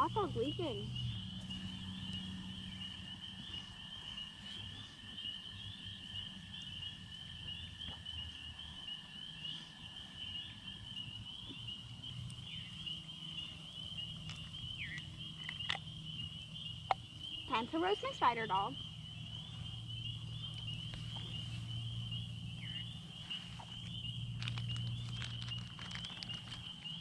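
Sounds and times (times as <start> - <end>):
frogs chorus high pulsing trill: 0.0 - 27.0.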